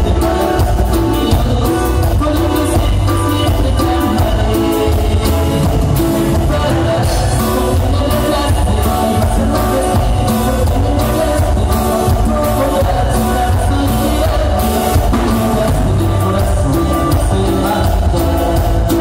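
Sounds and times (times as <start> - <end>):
live band playing with singing: 0.0 - 19.0.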